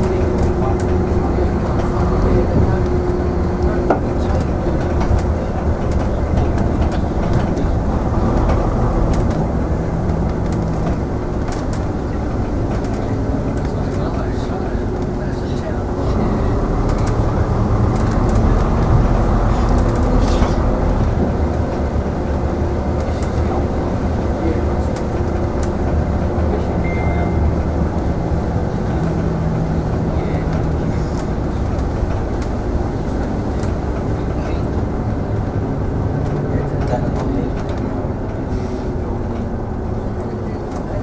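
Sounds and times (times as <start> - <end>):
bus body rattles and clicks: 0.0 - 41.0
bus diesel engine drone: 0.0 - 41.0.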